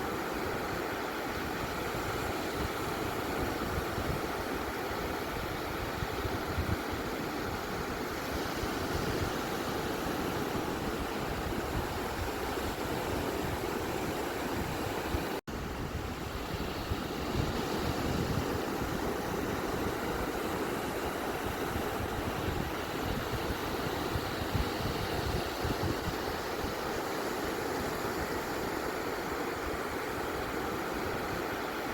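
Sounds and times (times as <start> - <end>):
ocean surf washing onto beach: 0.0 - 31.9.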